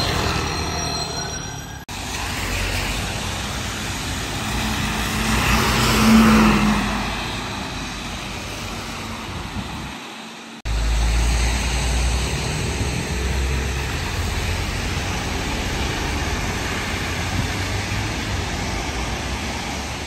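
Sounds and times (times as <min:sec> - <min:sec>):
low traffic rumble: 0:01.8 - 0:20.0
bus passing on wet road: 0:01.9 - 0:20.0.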